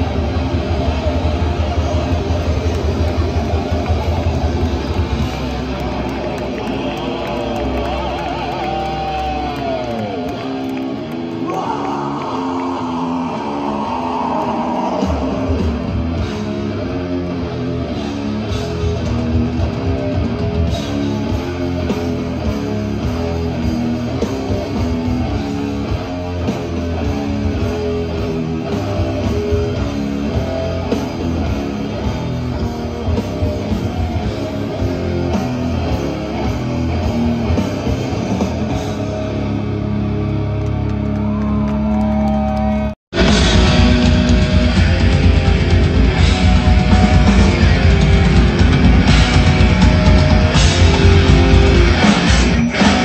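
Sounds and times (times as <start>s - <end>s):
bass and drums: 0.0s - 53.0s
distorted electric guitars: 0.0s - 53.0s.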